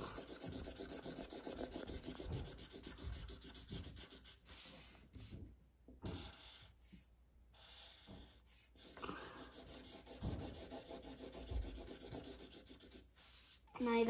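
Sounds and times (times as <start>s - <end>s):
marker scratching on paper: 0.0s - 5.4s, 7.6s - 14.0s.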